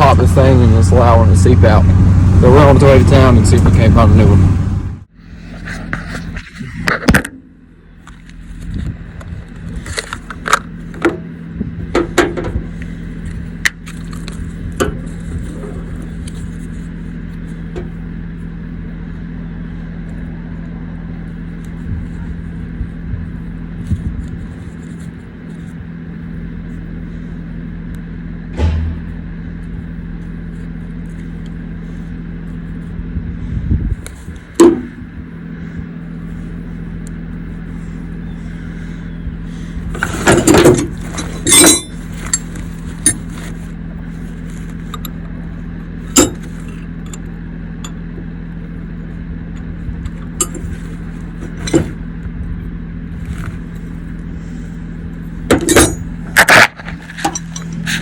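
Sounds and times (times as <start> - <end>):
vehicle engine and road drone: 0.0 - 58.0.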